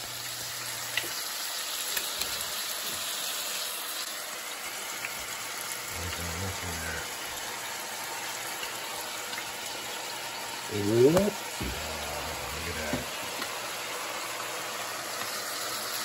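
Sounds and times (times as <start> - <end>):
fish sizzling in a skillet: 0.0 - 16.0.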